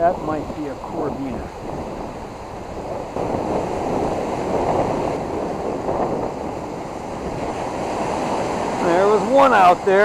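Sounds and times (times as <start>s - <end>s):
surf breaking on choppy water: 0.0s - 10.0s
wind on microphone: 0.0s - 10.0s.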